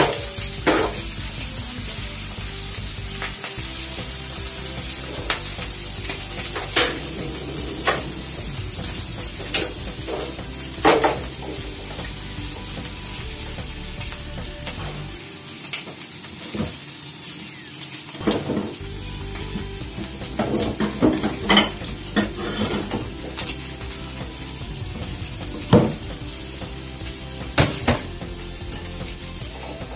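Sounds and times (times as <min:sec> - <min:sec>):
food sizzling in a frying pan: 0:00.0 - 0:29.9.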